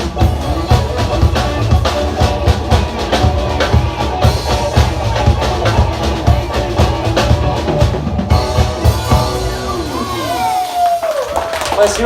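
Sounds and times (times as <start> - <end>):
drum kit beat: 0.0 - 11.7
rock band playing live: 0.0 - 12.0.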